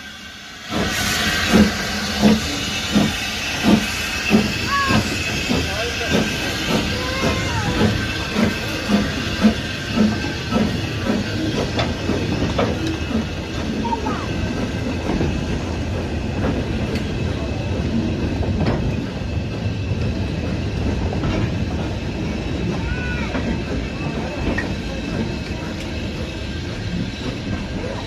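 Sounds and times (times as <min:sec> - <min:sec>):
steam locomotive chuffing: 0:00.0 - 0:28.0
wagons rumbling over rail joints: 0:00.7 - 0:28.0.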